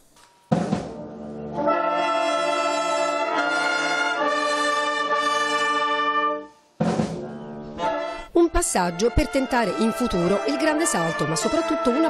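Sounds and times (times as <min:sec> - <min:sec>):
wind band playing brass chords: 0:00.9 - 0:12.0.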